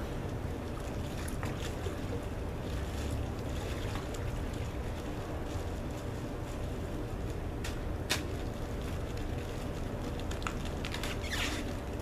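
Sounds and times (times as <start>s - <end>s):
street noise: 0.0s - 12.0s
wind rumble on microphone: 0.0s - 12.0s
ice in plastic bags crackling: 0.4s - 12.0s.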